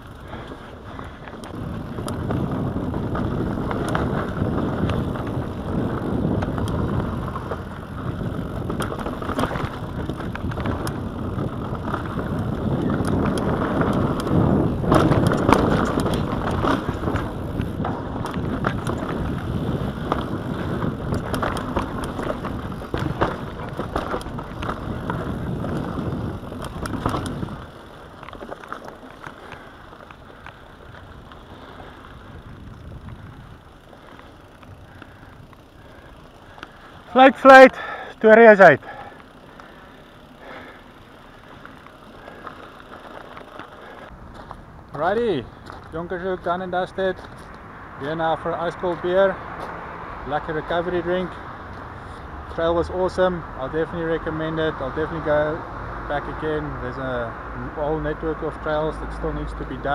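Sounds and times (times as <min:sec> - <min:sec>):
bike rattling and clicking: 0:00.0 - 0:59.9
tyre and trail noise: 0:00.0 - 0:59.9.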